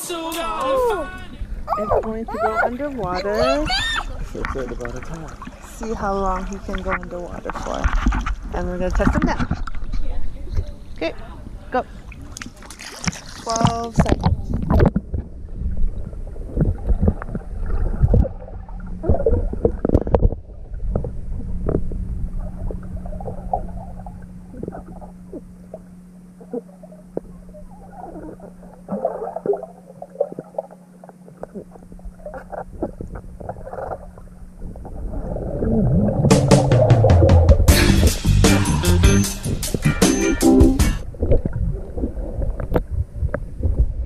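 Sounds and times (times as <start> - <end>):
steady low hum: 0.0 - 44.0
underwater bubbling and gurgling: 1.3 - 37.7, 41.0 - 44.0.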